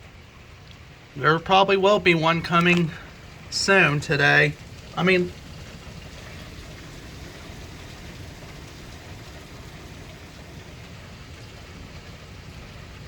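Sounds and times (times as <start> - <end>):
heavy rain falling: 0.6 - 13.0.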